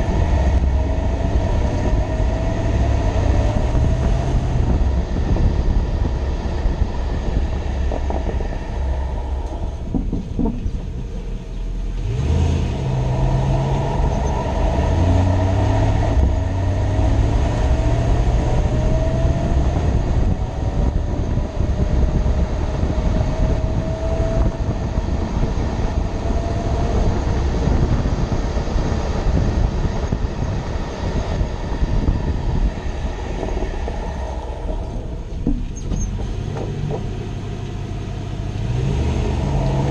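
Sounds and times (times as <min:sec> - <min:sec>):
faint engine whine: 0:00.0 - 0:39.9
truck engine rumbling: 0:00.0 - 0:39.9.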